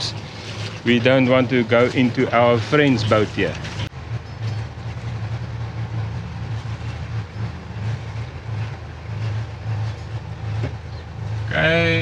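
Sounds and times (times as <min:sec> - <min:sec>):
diesel engine throbbing: 0:00.0 - 0:12.0.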